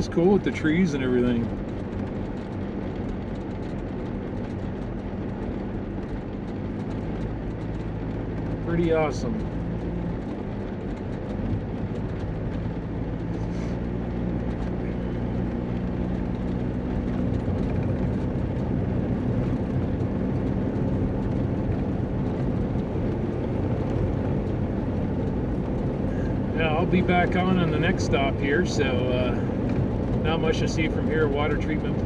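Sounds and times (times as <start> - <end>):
road and tyre noise: 0.0 - 32.0
vehicle engine running: 0.0 - 32.0.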